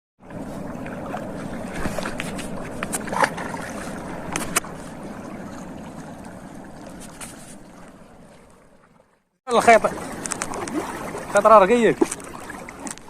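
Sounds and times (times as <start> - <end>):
water sloshing and splashing: 0.2 - 13.0.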